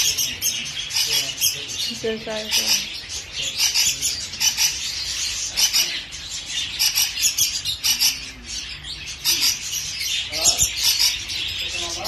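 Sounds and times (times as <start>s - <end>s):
small parrots chirping: 0.0s - 12.0s.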